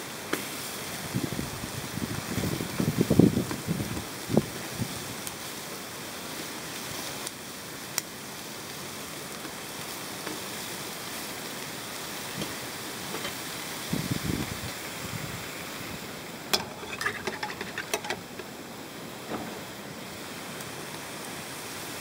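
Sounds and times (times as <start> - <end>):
meat sizzling: 1.9 - 22.0.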